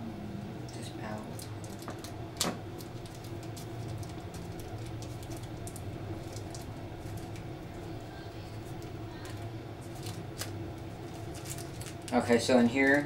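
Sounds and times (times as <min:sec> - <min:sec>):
steady low hum: 0:00.0 - 0:13.0
plastic bag crinkling: 0:01.2 - 0:13.0.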